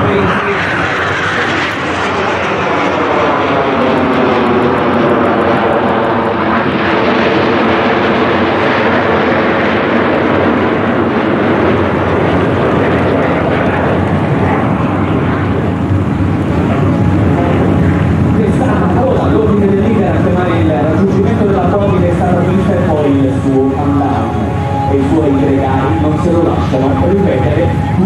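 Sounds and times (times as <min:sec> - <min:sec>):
jet aircraft flying past: 0:00.0 - 0:28.0.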